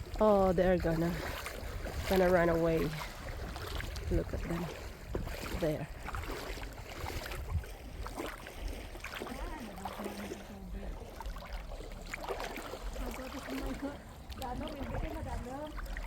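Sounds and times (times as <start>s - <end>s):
sea waves washing on shore: 0.0s - 16.0s
wind rumbling on microphone: 0.0s - 16.0s.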